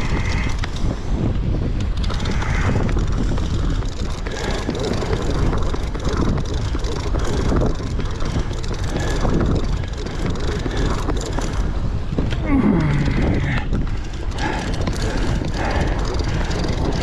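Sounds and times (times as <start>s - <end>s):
boat engine rumbling: 0.0s - 17.0s
wind: 0.0s - 17.0s.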